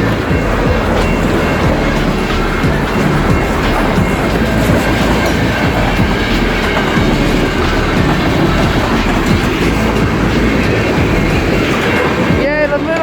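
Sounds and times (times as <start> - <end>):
freight train rumbling past: 0.0 - 13.0
wheels clacking over rails: 0.0 - 13.0.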